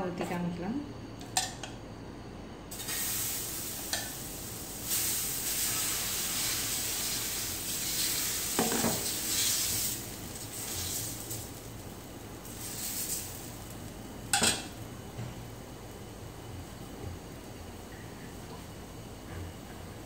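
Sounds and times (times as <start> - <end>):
batter sizzling on a griddle: 2.7 - 20.0.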